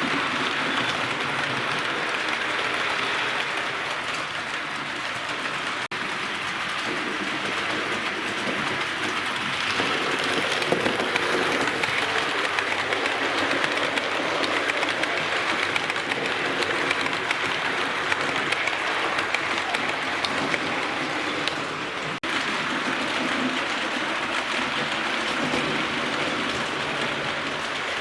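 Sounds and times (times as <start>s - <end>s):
wheels clicking on track: 0.0s - 28.0s.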